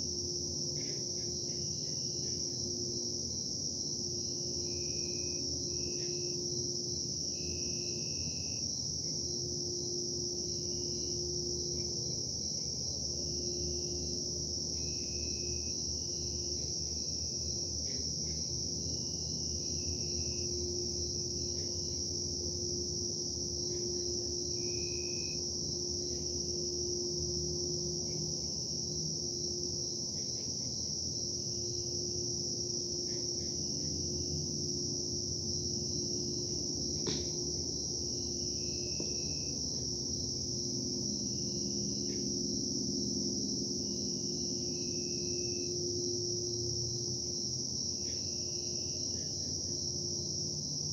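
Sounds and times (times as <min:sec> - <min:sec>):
cricket chorus: 0:00.0 - 0:50.9.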